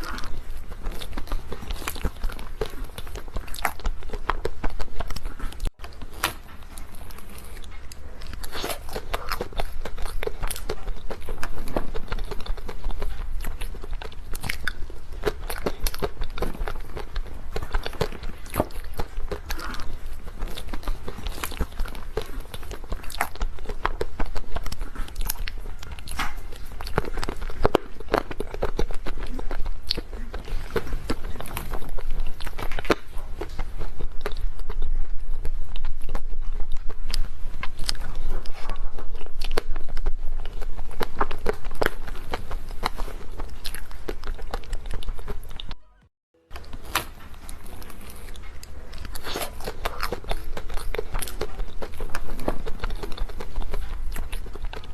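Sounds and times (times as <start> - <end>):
person biting and chewing: 0.0 - 45.8, 46.5 - 54.9.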